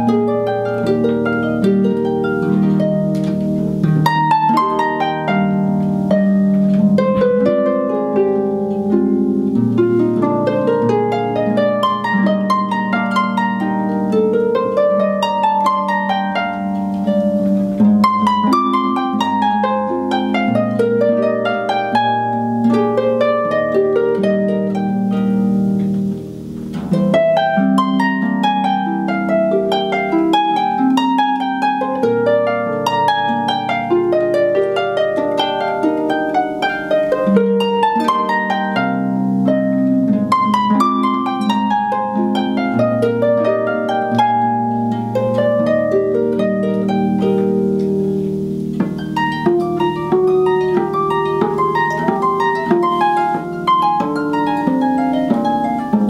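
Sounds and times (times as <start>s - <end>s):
harp arpeggios: 0.0s - 56.0s.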